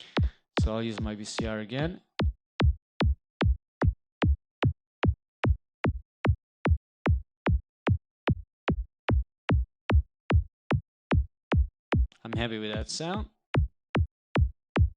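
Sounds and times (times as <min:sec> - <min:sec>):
synthesized kick drum: 0:00.0 - 0:14.9.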